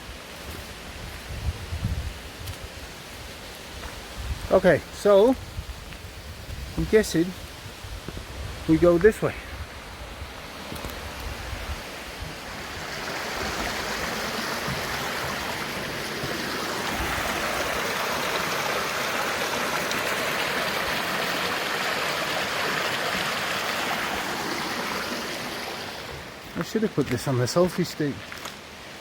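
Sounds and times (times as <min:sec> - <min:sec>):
running water rushing: 0:02.2 - 0:29.0.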